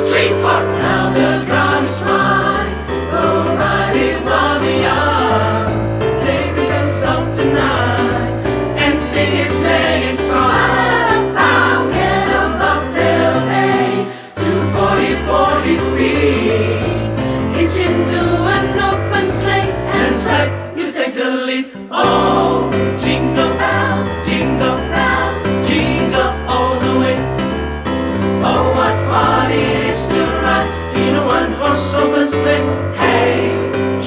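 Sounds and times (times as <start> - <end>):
choir singing in parts: 0.0 - 27.6, 28.2 - 34.0.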